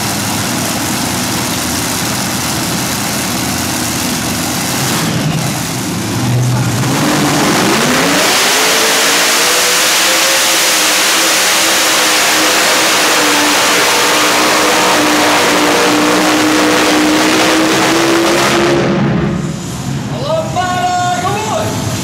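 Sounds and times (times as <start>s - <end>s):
tractor engines at full throttle: 0.0s - 22.0s.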